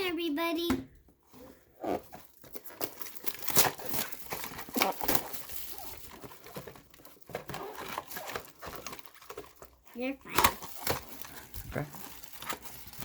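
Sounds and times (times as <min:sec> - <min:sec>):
wrapping crinkled and torn: 0:01.8 - 0:13.0.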